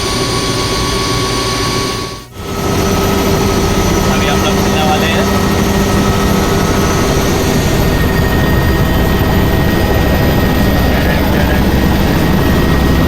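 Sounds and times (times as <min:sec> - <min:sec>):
faint high whine: 0:00.0 - 0:13.0
helicopter turbine and rotor: 0:00.0 - 0:13.0.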